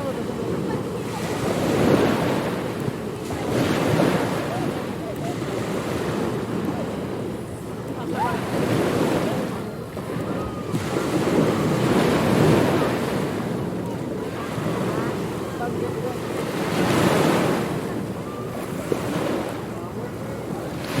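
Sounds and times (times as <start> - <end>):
ocean surf breaking on beach: 0.0 - 21.0
wind: 0.0 - 21.0.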